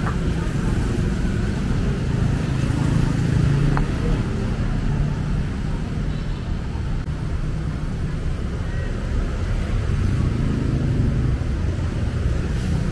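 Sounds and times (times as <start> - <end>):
traffic engines rumbling: 0.0 - 12.9.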